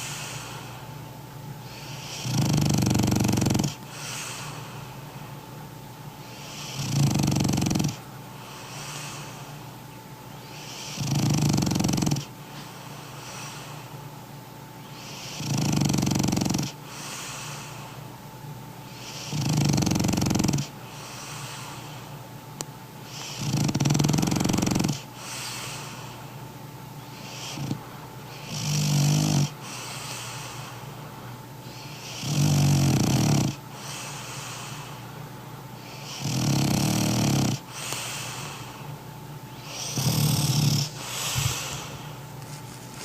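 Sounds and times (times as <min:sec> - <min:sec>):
dog snoring: 0:00.0 - 0:00.9, 0:01.6 - 0:05.1, 0:06.2 - 0:09.6, 0:10.4 - 0:13.9, 0:14.8 - 0:18.0, 0:18.9 - 0:22.2, 0:23.0 - 0:26.4, 0:27.0 - 0:30.9, 0:31.6 - 0:35.1, 0:35.8 - 0:42.2
wheezy breaths: 0:00.0 - 0:14.2, 0:14.8 - 0:18.2, 0:18.8 - 0:22.3, 0:23.0 - 0:43.0.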